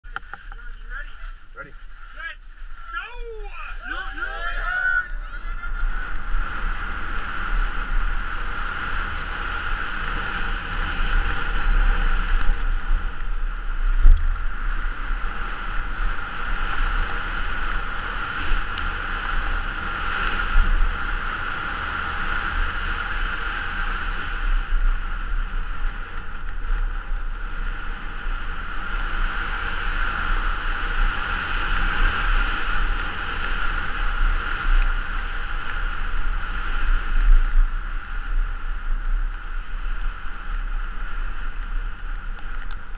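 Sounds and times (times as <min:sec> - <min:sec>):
bike rumbling on snow: 0:00.0 - 0:42.9
wind rush: 0:00.0 - 0:42.9.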